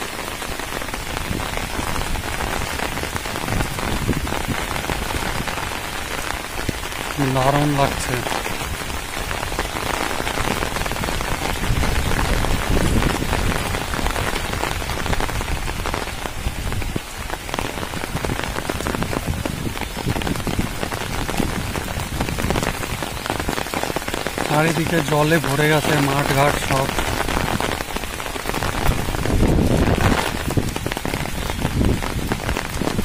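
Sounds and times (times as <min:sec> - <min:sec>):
torrential rain: 0:00.0 - 0:33.0.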